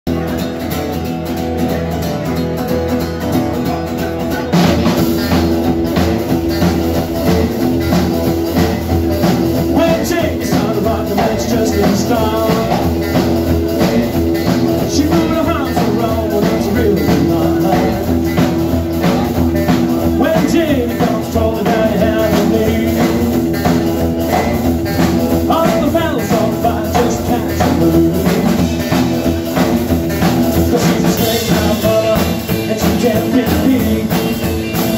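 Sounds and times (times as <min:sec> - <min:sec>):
rock and roll band playing: 0:00.0 - 0:34.9
man singing: 0:03.2 - 0:34.9.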